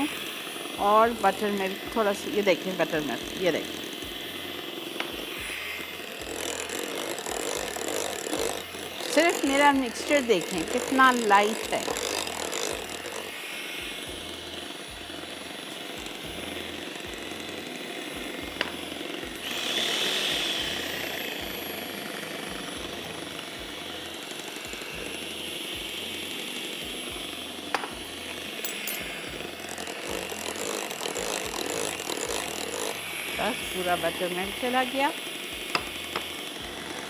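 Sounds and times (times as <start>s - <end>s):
electric hand mixer whirring: 0.0s - 37.0s.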